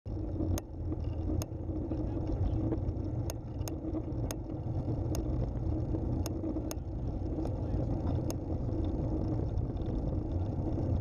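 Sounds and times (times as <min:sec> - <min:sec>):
trike rolling on asphalt: 0:00.1 - 0:11.0.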